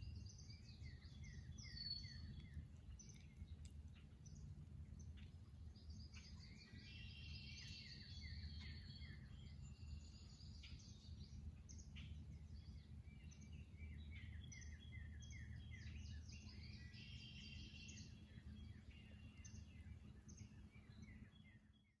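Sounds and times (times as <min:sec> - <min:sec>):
steady low hum: 0:00.0 - 0:21.9
songbirds singing: 0:00.0 - 0:22.0.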